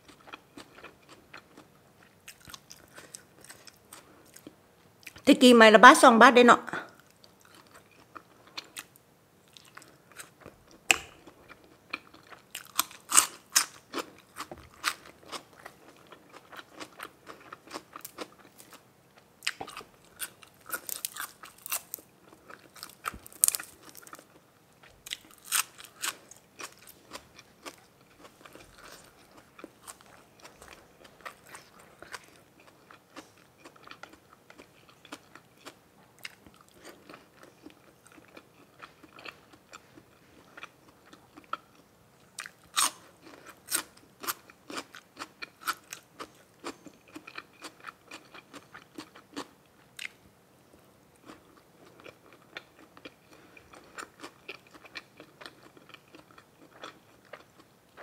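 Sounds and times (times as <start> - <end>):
person chewing crunchy food: 0.0 - 5.2, 7.0 - 18.8, 19.4 - 50.2, 51.2 - 58.0.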